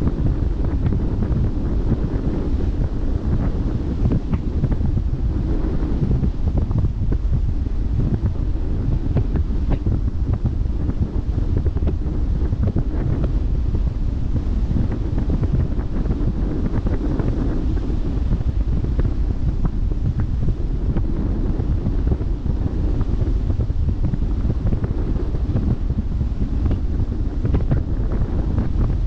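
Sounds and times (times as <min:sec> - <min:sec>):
sea washing against ship's bow: 0:00.0 - 0:29.0
wind buffeting microphone: 0:00.0 - 0:29.0.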